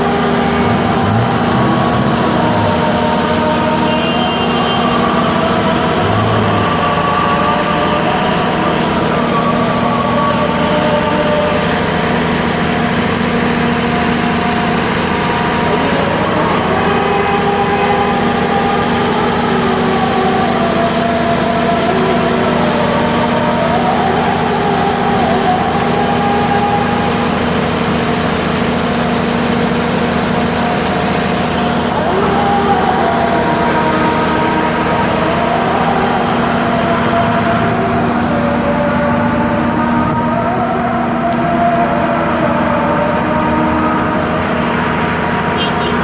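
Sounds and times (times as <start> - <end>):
vehicle engines in traffic: 0.0 - 46.0.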